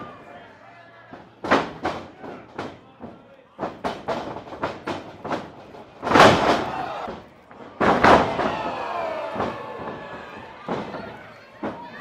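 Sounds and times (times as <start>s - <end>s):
footfalls on wrestling ring: 1.1s - 12.0s.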